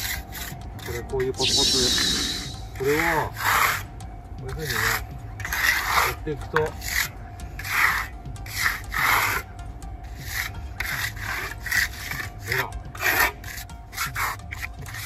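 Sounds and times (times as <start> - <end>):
trowel scraping wet concrete: 0.0 - 3.9, 4.5 - 15.0.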